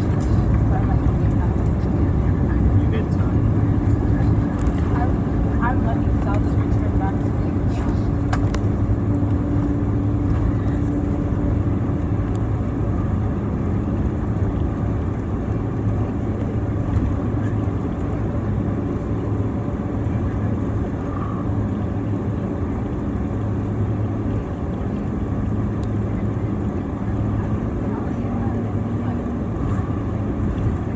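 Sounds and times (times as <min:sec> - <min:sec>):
airliner engine hum and rumble: 0:00.0 - 0:30.9.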